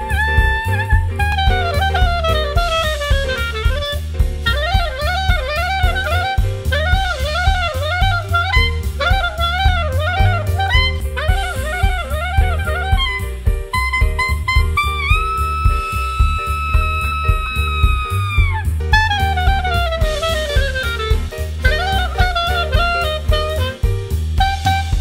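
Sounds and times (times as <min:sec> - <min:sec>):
drum kit beat: 0:00.0 - 0:25.0
horn playing quick runs: 0:00.0 - 0:25.0.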